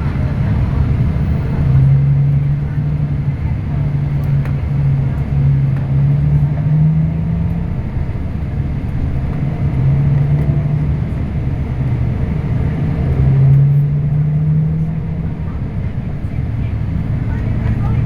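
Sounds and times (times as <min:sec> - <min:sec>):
bus diesel engine droning: 0:00.0 - 0:18.0
road noise: 0:00.0 - 0:18.0.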